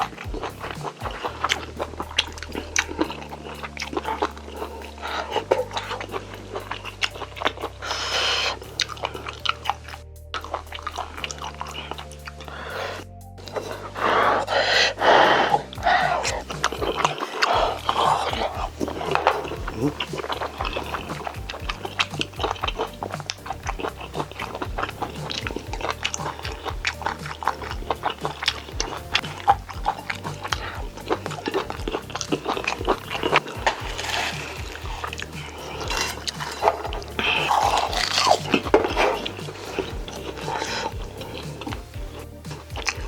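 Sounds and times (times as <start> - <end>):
quiet background music: 0.0 - 43.0
wet chewing and mouth smacks: 0.0 - 43.0.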